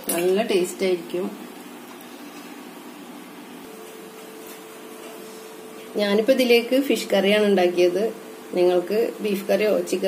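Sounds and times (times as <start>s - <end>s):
faint steady hum: 0.0s - 10.0s
room tone hiss: 0.0s - 10.0s.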